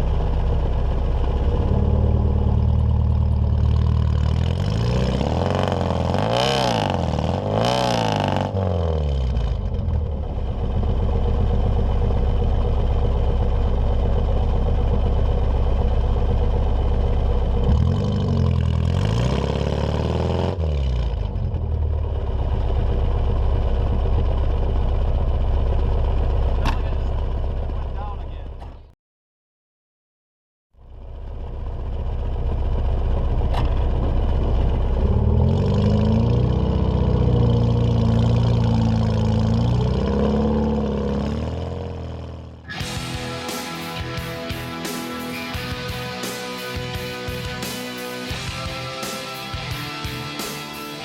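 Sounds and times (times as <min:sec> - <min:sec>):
car engine idling and revving: 0:00.0 - 0:29.0, 0:30.8 - 0:51.0.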